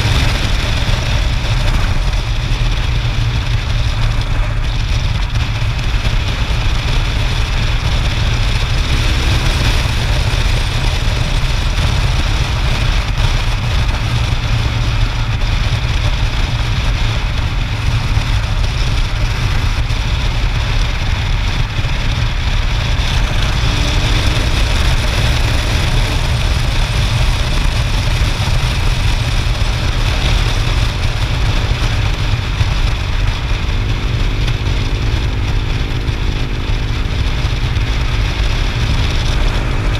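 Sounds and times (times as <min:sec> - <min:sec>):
motorcycle engine and tyre noise: 0:00.0 - 0:39.9
wind rumble on microphone: 0:00.0 - 0:39.9.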